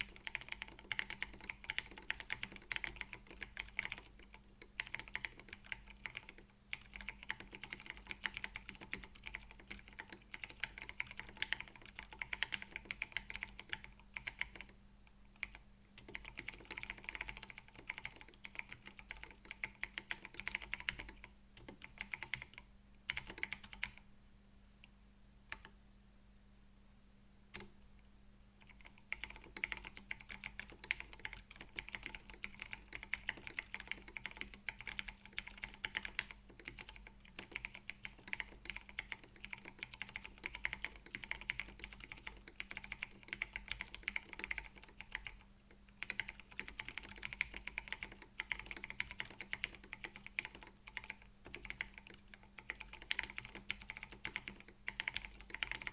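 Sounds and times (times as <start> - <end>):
mechanical keyboard typing: 0.0 - 14.8, 15.4 - 24.0, 25.5 - 25.7, 28.6 - 55.9.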